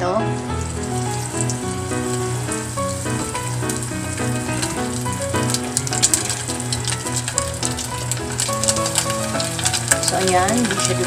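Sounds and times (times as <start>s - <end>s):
background music: 0.0s - 11.0s
chicken wings sizzling in oil: 0.0s - 11.0s.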